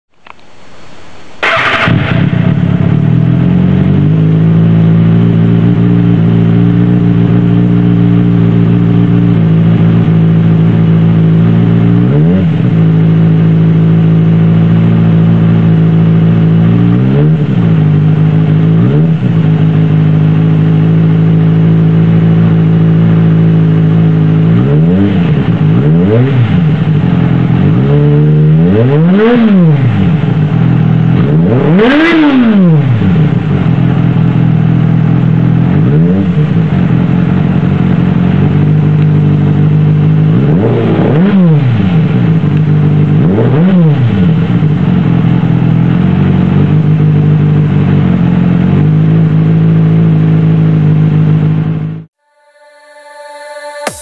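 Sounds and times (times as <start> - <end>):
motorcycle engine idling and revving: 1.4 - 54.0.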